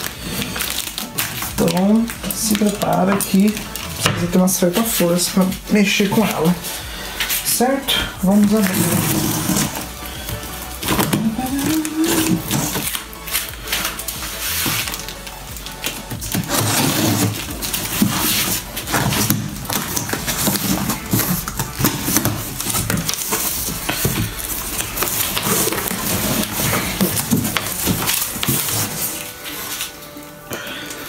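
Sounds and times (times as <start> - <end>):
cardboard rustling and scraping: 0.0 - 30.3.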